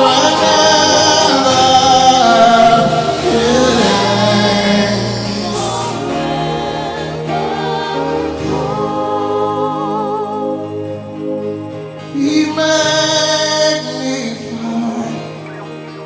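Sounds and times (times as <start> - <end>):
band playing gospel music: 0.0 - 16.0
singers: 0.0 - 16.0.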